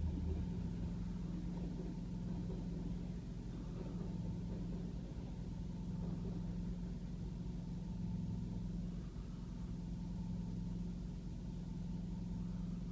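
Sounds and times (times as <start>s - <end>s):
diesel engine humming: 0.0s - 12.9s.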